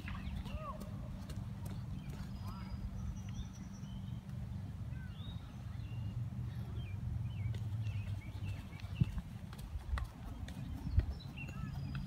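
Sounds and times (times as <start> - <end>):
birds chirping: 0.0 - 12.0
low outdoor background hum: 0.0 - 12.0.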